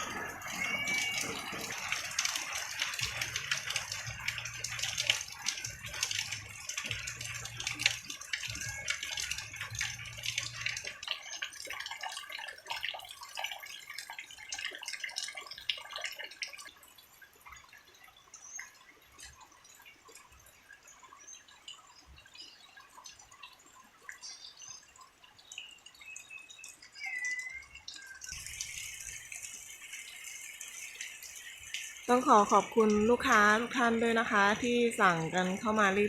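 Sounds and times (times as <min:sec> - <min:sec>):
heavy rain with drips: 0:00.0 - 0:36.0.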